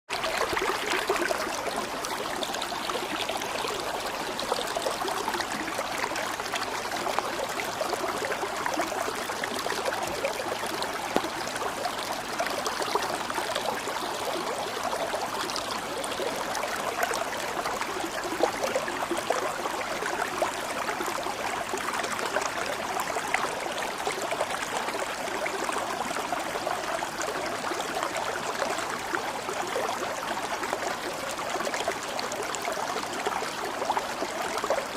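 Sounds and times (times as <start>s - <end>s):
stream flowing over stones: 0.1s - 34.9s.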